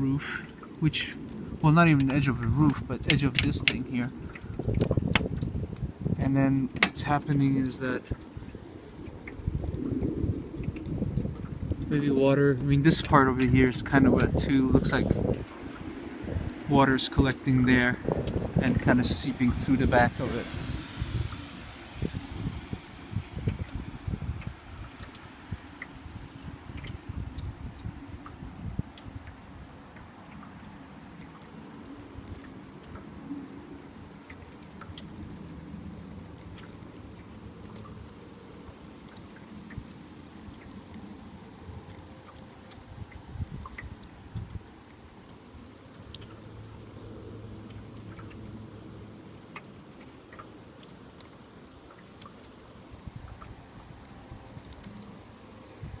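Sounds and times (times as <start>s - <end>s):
faint steady hiss: 0.0s - 56.0s
rain drops ticking: 0.0s - 56.0s.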